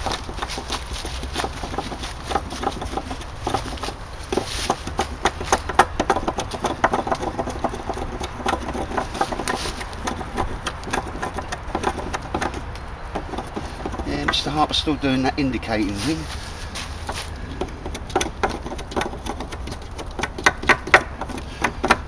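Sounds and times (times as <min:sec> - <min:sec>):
hatchet chopping wood: 0:00.0 - 0:14.8, 0:17.0 - 0:22.0.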